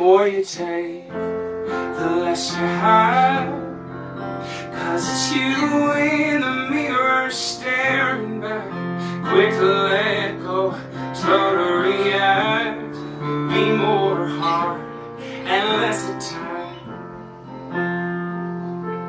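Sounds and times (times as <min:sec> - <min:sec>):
person singing: 0:00.0 - 0:18.6
digital piano: 0:00.0 - 0:19.0
acoustic guitar strumming: 0:01.1 - 0:18.8.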